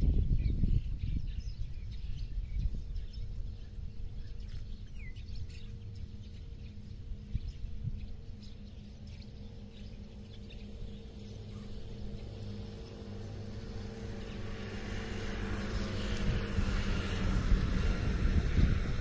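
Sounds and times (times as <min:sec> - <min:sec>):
low steady engine hum: 0:00.0 - 0:19.0
wind noise on microphone: 0:00.0 - 0:19.0.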